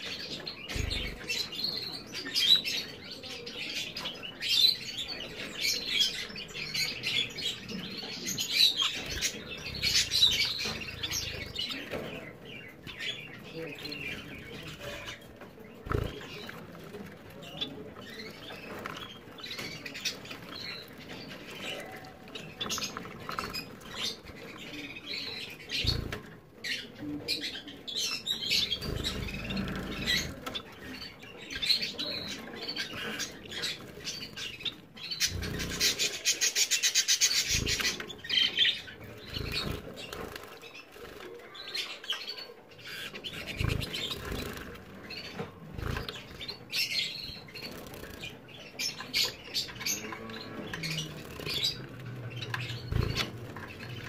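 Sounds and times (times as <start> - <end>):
birds fluttering and splashing water: 4.3 - 54.0.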